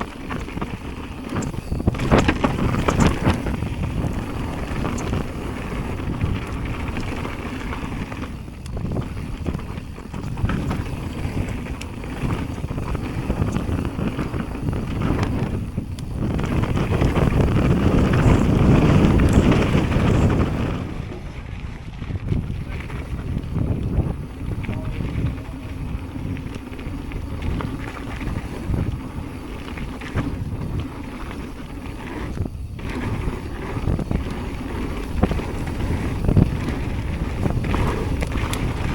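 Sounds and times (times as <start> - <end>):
bike rattling over dirt: 0.0 - 38.9
wind buffeting microphone: 0.0 - 38.9.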